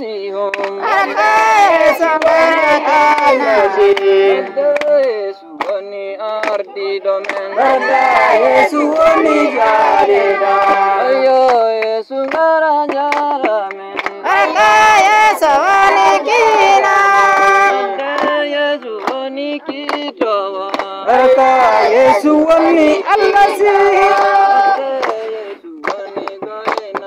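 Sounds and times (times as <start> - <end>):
group singing: 0.0 - 27.0
hands clapping: 0.4 - 27.0.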